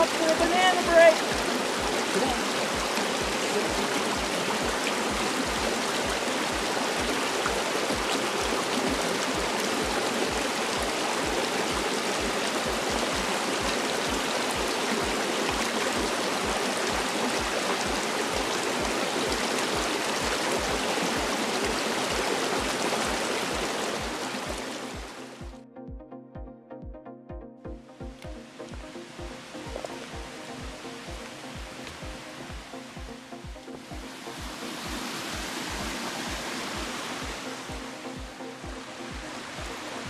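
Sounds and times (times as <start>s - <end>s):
brook running over rocks: 0.0s - 25.6s, 28.1s - 40.0s.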